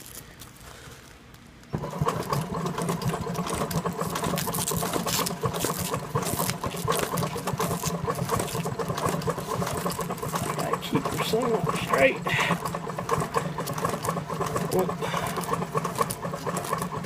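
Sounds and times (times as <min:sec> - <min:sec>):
industrial sewing machine running: 0:01.7 - 0:17.0.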